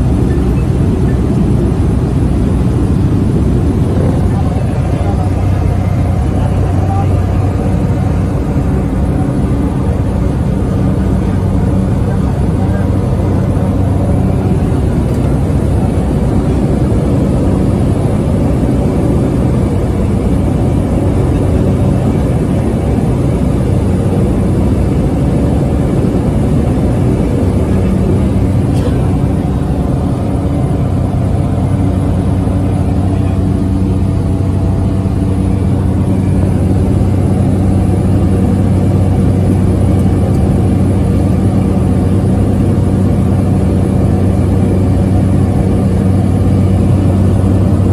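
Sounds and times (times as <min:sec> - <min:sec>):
propeller aircraft cabin drone: 0:00.0 - 0:47.9.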